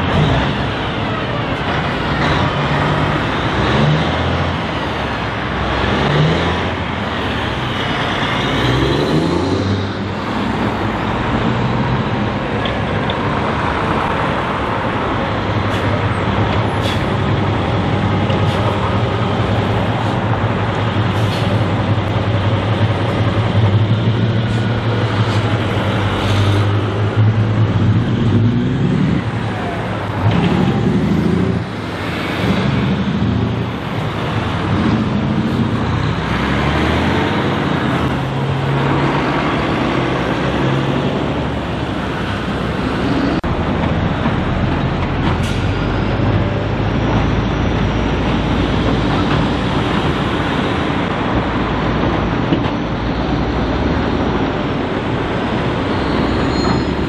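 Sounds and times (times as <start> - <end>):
road traffic noise: 0.0 - 57.0
truck diesel engines driving by: 0.0 - 57.0.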